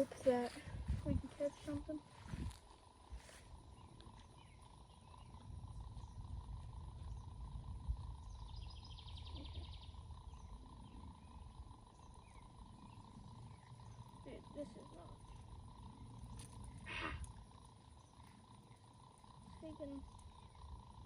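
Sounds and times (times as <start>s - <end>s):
wind rumble on microphone: 0.0s - 18.7s
faint steady whine: 0.0s - 21.0s.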